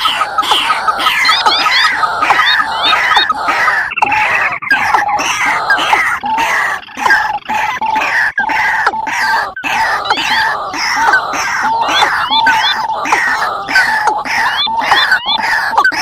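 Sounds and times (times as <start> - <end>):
chorus of harsh rail calls: 0.0 - 16.0.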